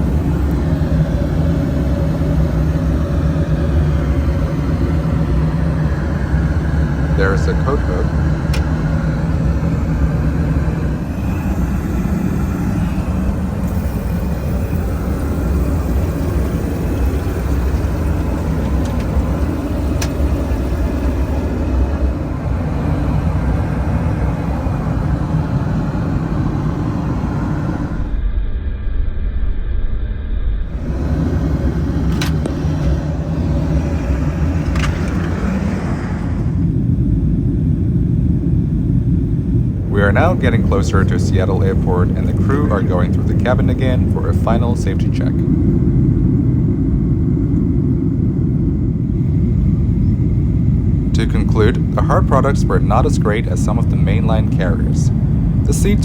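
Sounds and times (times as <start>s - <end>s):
aircraft cabin rumble: 0.0s - 28.2s, 30.7s - 56.0s.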